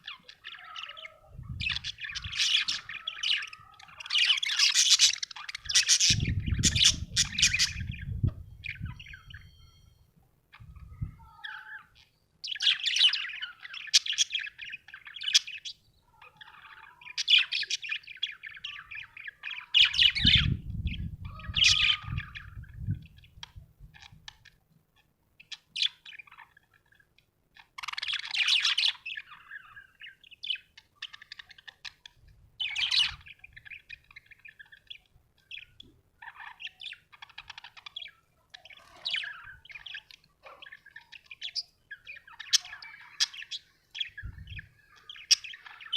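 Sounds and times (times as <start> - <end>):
budgerigar chirping and warbling: 0.0 - 9.8, 10.5 - 45.9.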